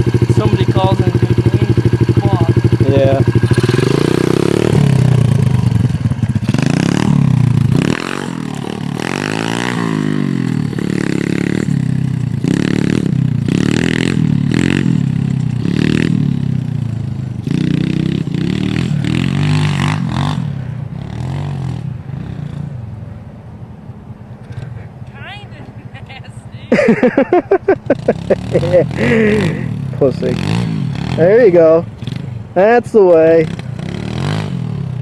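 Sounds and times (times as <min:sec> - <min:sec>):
minibike engine revving: 0:00.0 - 0:22.8, 0:26.7 - 0:35.0.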